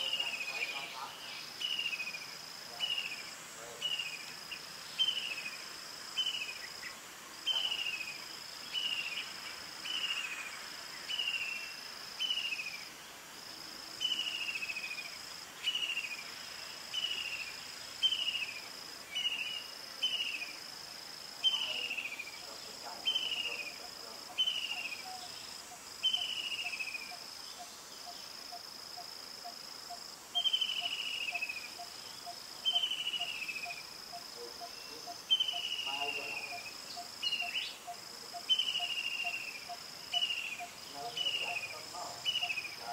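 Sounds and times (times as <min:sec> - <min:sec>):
insect high buzz: 0:00.0 - 0:42.9.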